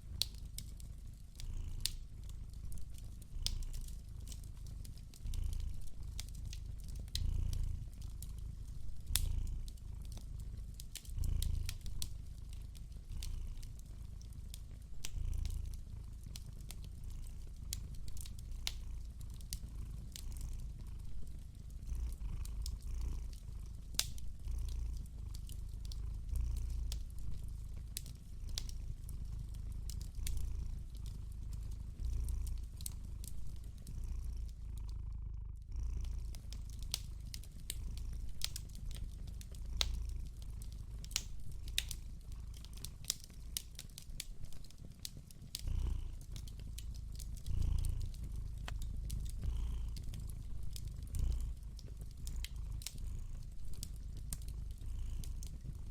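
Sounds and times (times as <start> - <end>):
fire crackling: 0.0 - 34.8, 35.9 - 55.9
cat purring: 0.0 - 55.9.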